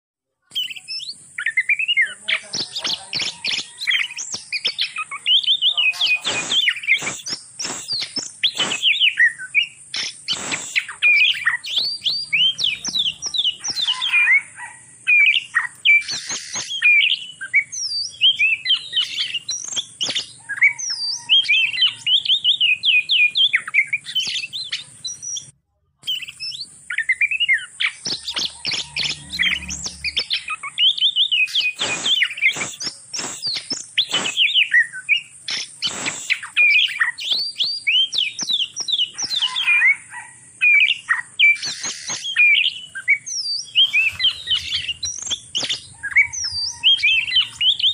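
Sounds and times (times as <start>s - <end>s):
sharp bird clicks: 0.5s - 14.3s, 15.1s - 39.9s, 40.7s - 47.9s
bird singing chirps and whistles: 0.5s - 47.9s.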